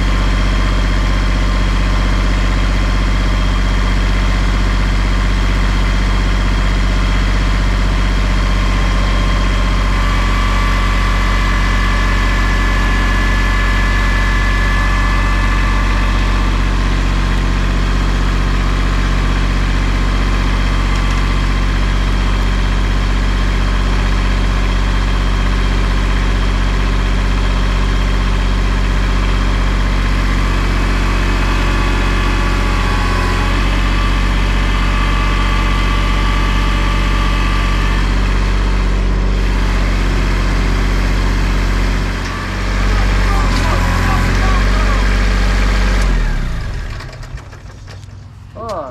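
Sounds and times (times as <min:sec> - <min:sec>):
engine idling with low hum: 0:00.0 - 0:48.9
higher engine tones: 0:03.1 - 0:25.5, 0:27.5 - 0:48.9.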